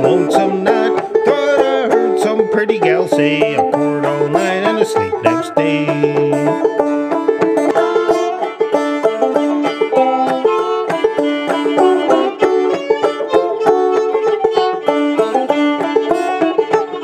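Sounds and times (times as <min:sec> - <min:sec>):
banjo picking: 0:00.0 - 0:17.0
fiddle bowed melody: 0:00.0 - 0:17.0.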